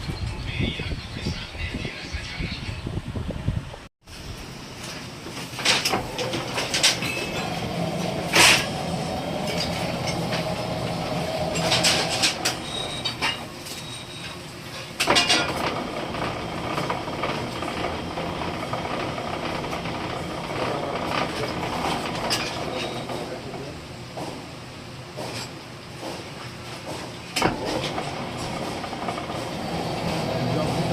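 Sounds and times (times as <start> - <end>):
machinery humming: 4.1 - 30.9
sharp knocks and clanks: 5.3 - 24.5, 25.1 - 30.9.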